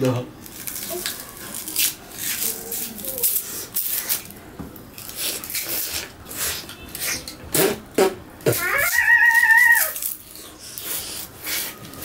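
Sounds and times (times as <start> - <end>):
sugar cane crunching and tearing: 0.4 - 7.7, 8.6 - 12.0.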